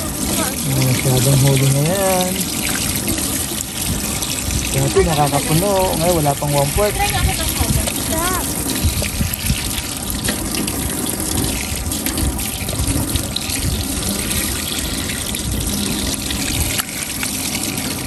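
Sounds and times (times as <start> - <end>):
water running from faucet: 0.0 - 18.0.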